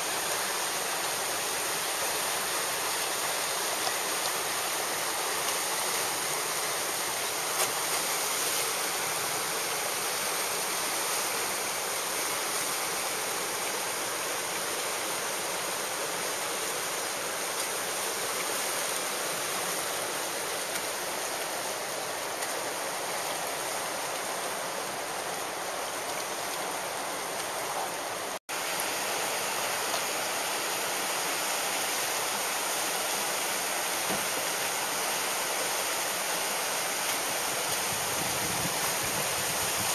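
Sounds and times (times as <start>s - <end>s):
whitewater rapids rushing: 0.0s - 39.9s.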